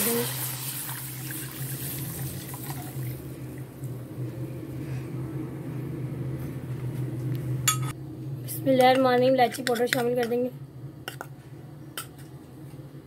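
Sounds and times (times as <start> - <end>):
steady low hum: 1.5 - 13.0.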